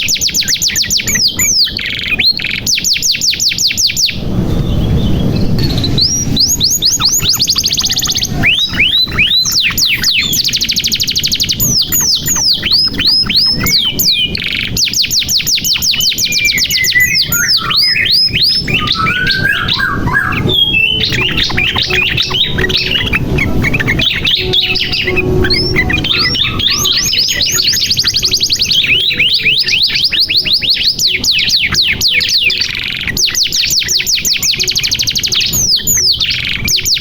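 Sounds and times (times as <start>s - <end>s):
canary singing: 0.0s - 37.0s.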